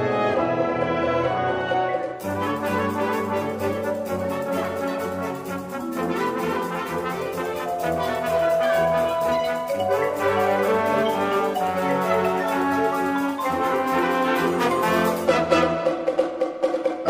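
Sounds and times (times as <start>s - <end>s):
wind band chords: 0.0s - 16.5s
percussion pulse: 2.0s - 17.0s.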